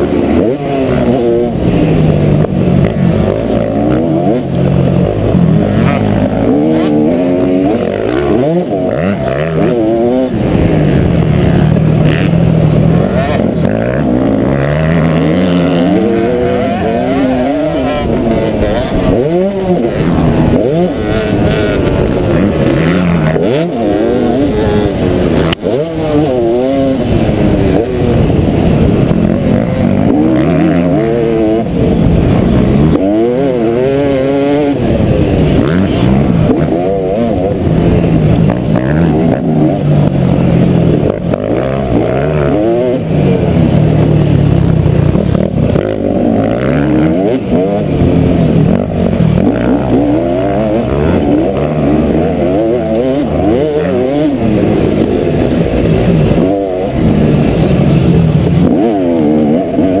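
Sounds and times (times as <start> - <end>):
muffled motorbike engine revving: 0.0 - 60.0.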